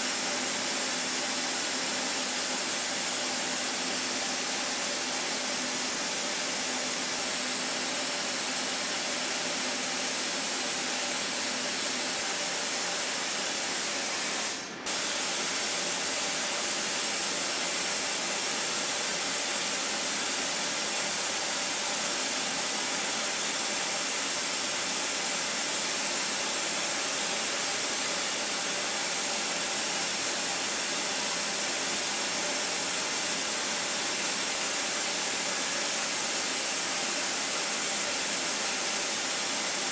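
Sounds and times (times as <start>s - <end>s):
milling machine hissing: 0.0s - 39.8s.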